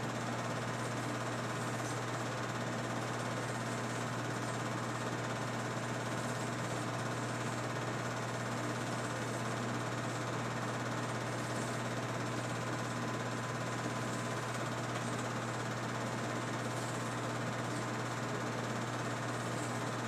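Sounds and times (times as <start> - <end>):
film projector whirring and clattering: 0.0 - 20.0.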